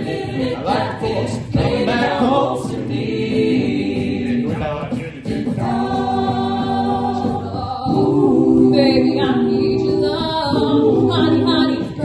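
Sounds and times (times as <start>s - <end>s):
a cappella group singing: 0.0s - 12.0s.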